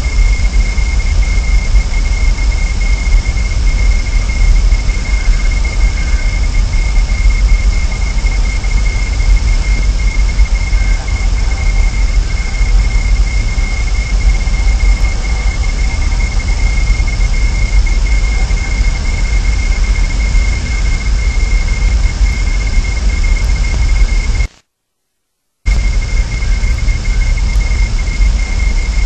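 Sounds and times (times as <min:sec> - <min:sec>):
low rumble: 0:00.0 - 0:24.5, 0:25.7 - 0:29.0
high-pitched whine: 0:00.0 - 0:24.6, 0:25.7 - 0:29.0
microphone hiss: 0:00.0 - 0:29.0.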